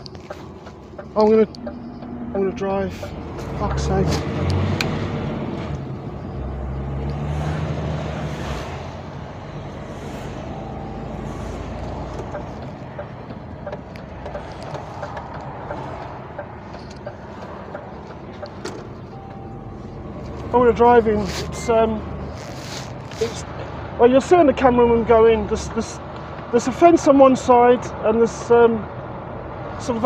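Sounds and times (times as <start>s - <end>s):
lorry diesel engine: 0.0s - 30.0s
road noise: 0.0s - 30.0s.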